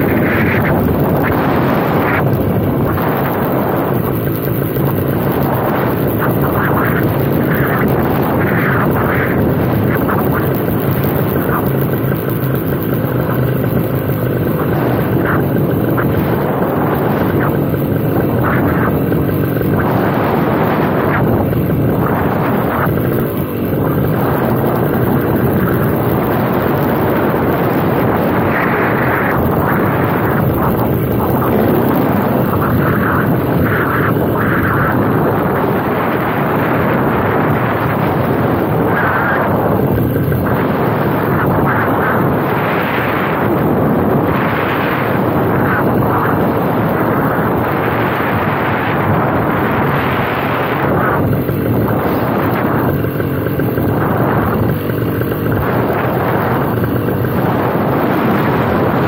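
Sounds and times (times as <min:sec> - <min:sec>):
paramotor engine running: 0:00.0 - 0:59.0
wind on microphone: 0:00.0 - 0:59.0.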